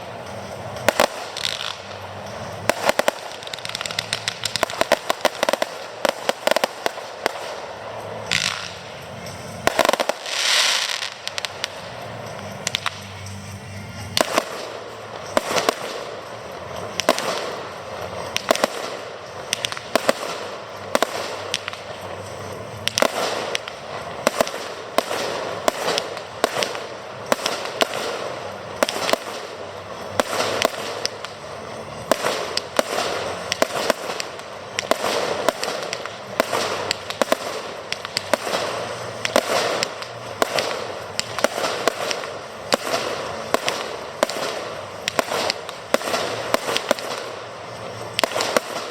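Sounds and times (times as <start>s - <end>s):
fireworks bangs: 0.0s - 48.9s
fireworks shells bursting haze: 0.0s - 48.9s.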